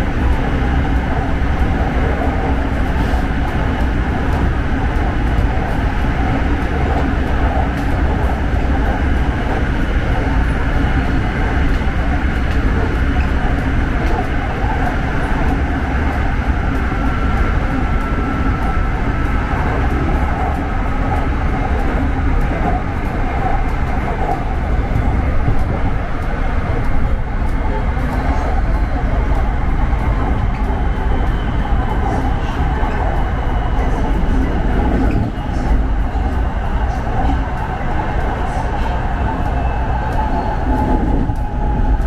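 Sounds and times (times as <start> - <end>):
train low rumble: 0.0 - 42.0.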